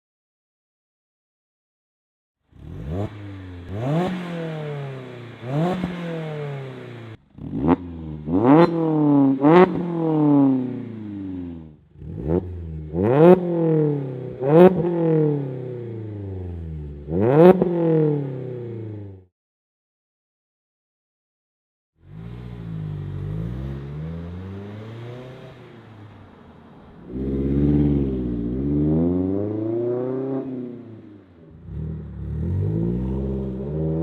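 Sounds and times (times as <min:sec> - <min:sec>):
car engine revving: 0:02.5 - 0:19.2, 0:22.0 - 0:34.0.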